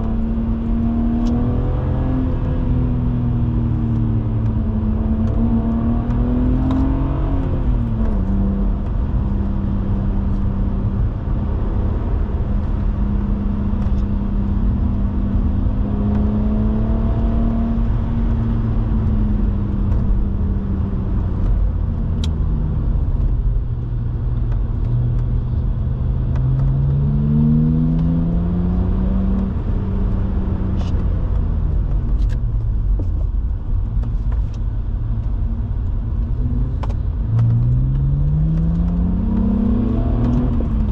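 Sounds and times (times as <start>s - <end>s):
car engine under load: 0.0s - 40.9s
tyre and road rumble: 0.0s - 40.9s.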